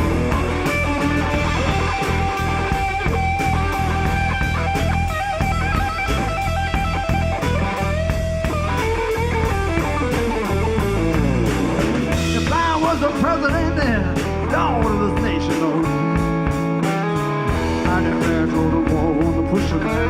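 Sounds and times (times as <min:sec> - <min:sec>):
bass guitar: 0:00.0 - 0:20.0
drum kit: 0:00.0 - 0:20.0
lead guitar with bent notes: 0:00.0 - 0:20.0.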